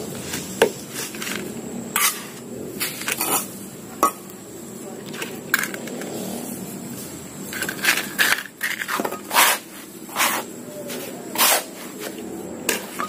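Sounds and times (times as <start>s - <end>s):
trowel scraping soil on concrete: 0.1s - 3.7s, 6.0s - 13.0s.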